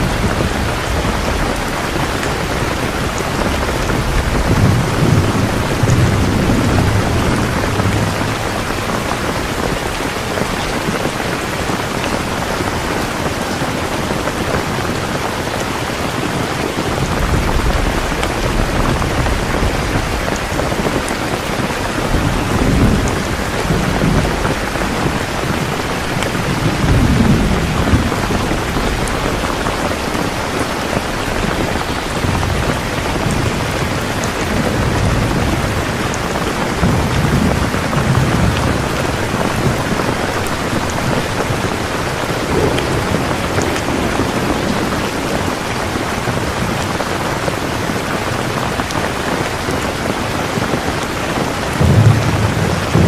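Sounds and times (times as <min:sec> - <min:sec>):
distant thunder rumbles: 0:00.0 - 0:53.0
heavy rain: 0:00.0 - 0:53.0.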